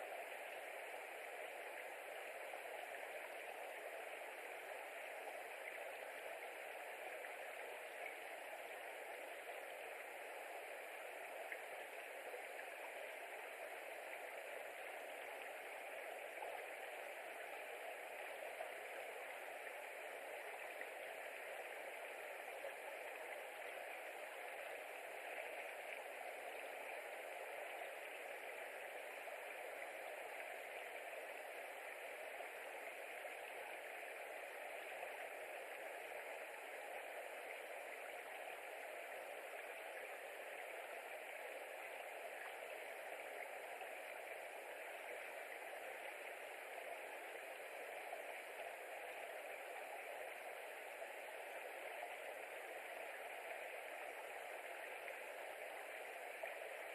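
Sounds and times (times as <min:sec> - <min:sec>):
steady hiss: 0:00.0 - 0:56.9.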